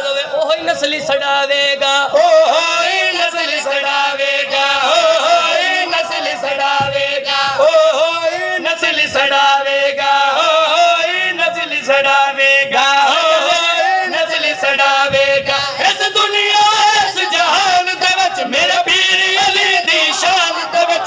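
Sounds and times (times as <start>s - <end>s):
men chanting into a microphone: 0.0s - 21.0s.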